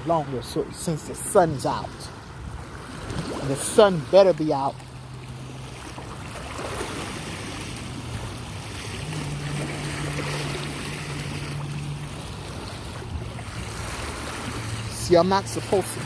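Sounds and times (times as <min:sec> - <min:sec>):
lake water lapping at shore: 0:00.0 - 0:16.0
low steady hum: 0:00.0 - 0:16.0.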